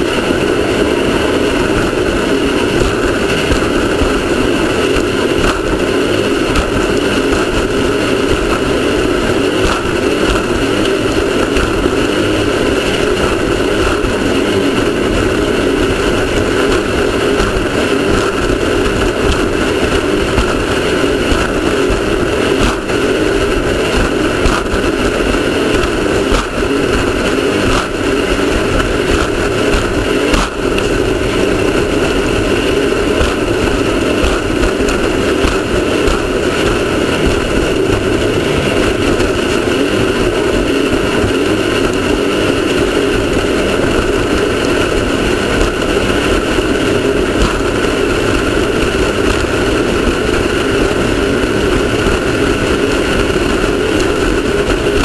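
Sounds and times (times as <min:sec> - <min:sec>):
race car engine running: 0:00.0 - 0:55.0
road and wind noise: 0:00.0 - 0:55.0.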